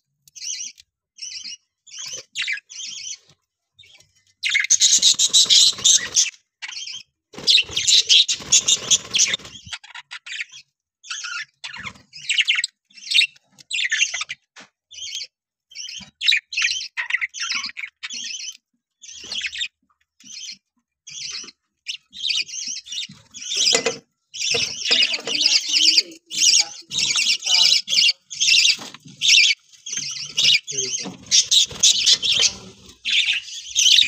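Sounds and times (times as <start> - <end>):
budgerigars chirping and chattering: 0.2 - 34.0.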